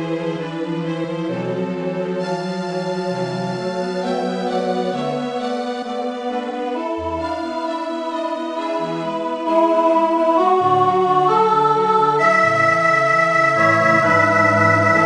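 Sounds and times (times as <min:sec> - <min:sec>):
synthesized organ choral music: 0:00.0 - 0:15.0.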